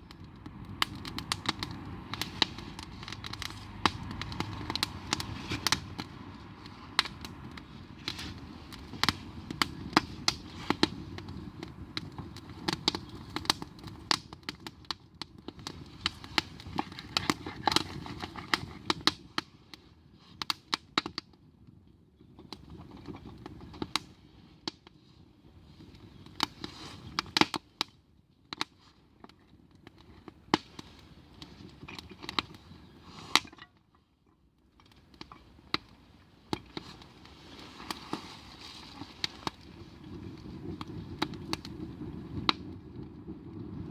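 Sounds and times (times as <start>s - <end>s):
campfire crackling: 0.0s - 43.9s
fire pops and snaps: 0.0s - 43.9s.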